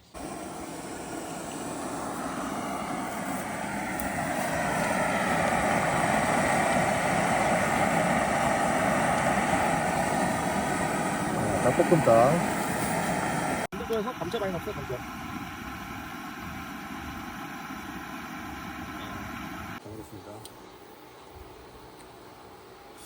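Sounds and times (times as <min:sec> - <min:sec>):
gas stove burner rushing: 0:00.0 - 0:19.8.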